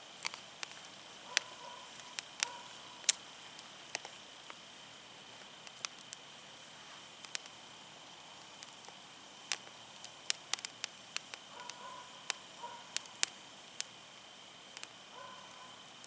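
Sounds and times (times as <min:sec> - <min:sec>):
steady hiss: 0:00.0 - 0:16.0
wood fire crackling and popping: 0:00.0 - 0:16.0.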